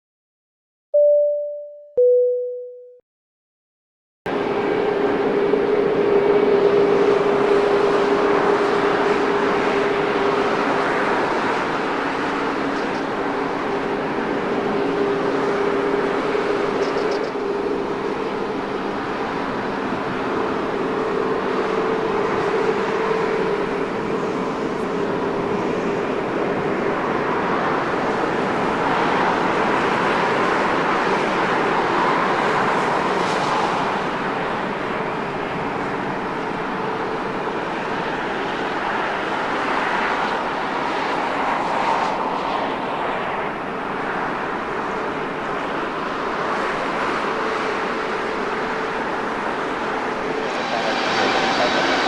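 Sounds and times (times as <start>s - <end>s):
jet engines running: 4.3s - 52.0s.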